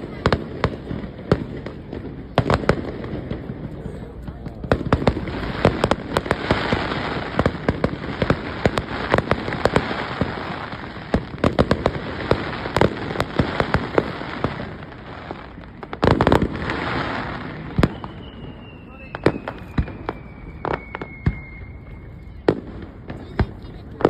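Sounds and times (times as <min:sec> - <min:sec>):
crackling hiss: 0:00.0 - 0:24.0
fireworks bangs: 0:00.0 - 0:24.0
fireworks cracking and popping: 0:00.0 - 0:24.0.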